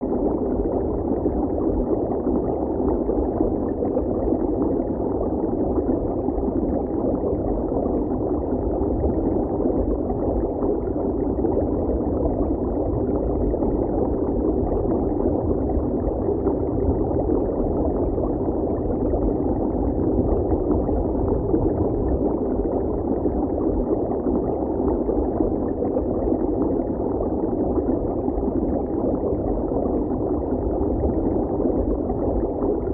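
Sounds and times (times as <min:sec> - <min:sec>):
muffled underwater water rush: 0:00.0 - 0:32.9.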